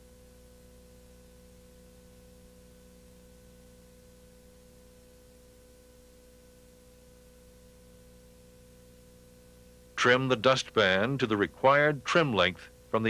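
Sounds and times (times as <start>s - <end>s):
faint hum with hiss: 0.0s - 13.0s.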